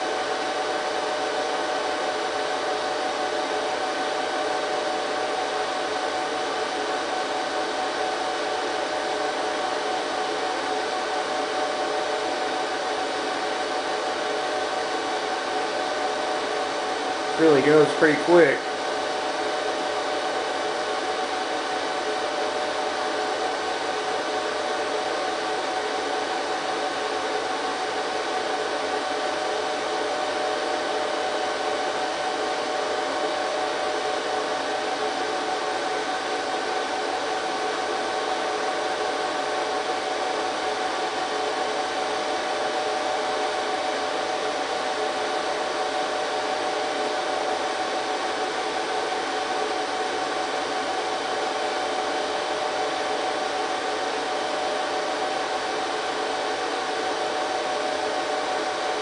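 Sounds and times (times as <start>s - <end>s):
server cooling fans whirring: 0.0s - 59.0s.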